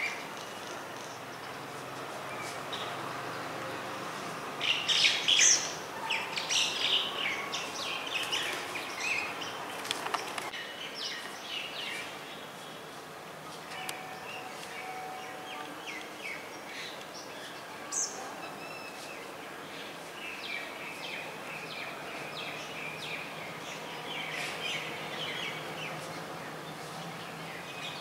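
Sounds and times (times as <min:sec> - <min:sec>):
birds chirping: 0:00.0 - 0:13.0, 0:13.6 - 0:28.0.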